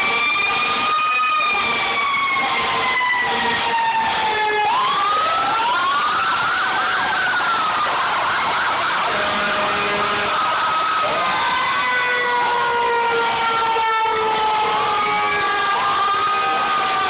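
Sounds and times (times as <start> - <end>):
emergency vehicle sirens wailing: 0.0 - 17.0.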